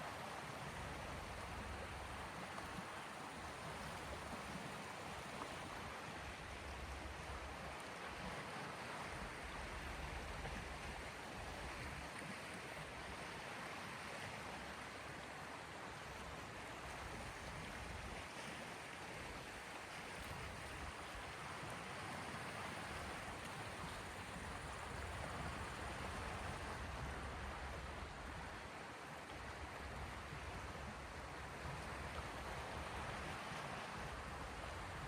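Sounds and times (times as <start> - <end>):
waves washing on shore: 0.0 - 35.0.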